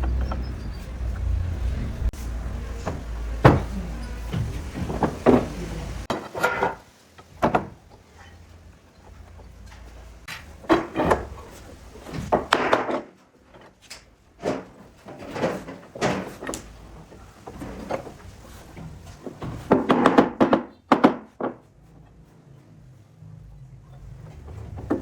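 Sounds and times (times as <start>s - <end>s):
wooden knocks and thuds: 0.0s - 8.2s, 9.0s - 13.7s, 14.4s - 21.8s.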